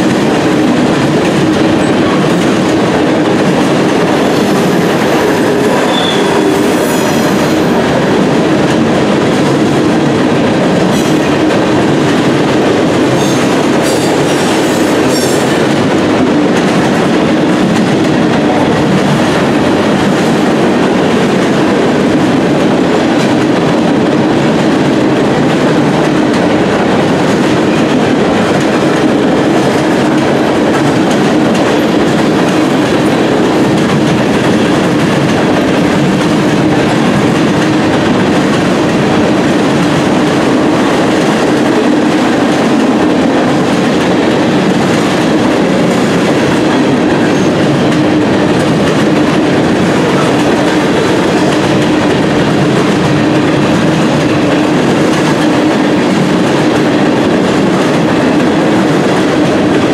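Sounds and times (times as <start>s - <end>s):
clickety-clack over rail joints: 0.0s - 59.9s
freight train wheels rumbling on rails: 0.0s - 59.9s.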